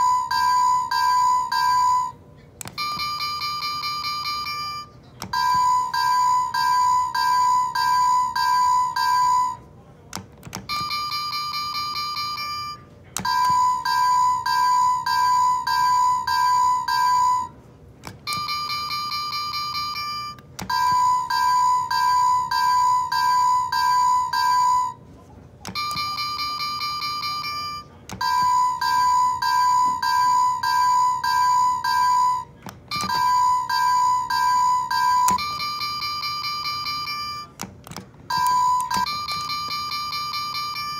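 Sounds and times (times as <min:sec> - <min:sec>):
toy crossing bell dinging: 0:00.0 - 0:09.7, 0:10.6 - 0:25.0, 0:25.6 - 0:37.6, 0:38.3 - 0:40.9.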